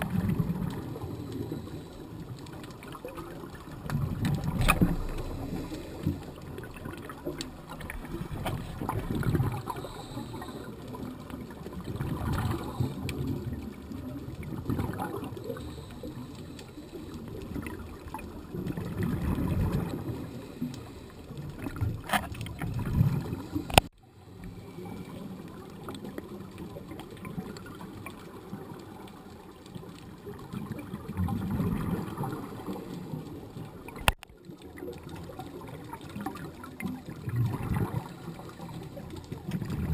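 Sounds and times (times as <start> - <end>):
underwater murmur: 0.0 - 23.8, 30.3 - 39.9
underwater regulator bubbles: 0.0 - 39.9.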